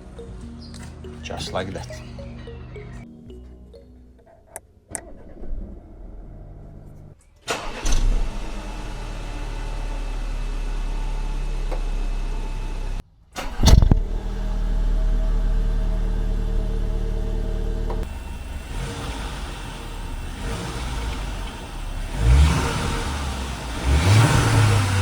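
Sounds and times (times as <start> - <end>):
car engine starting and idling: 4.9 - 25.0.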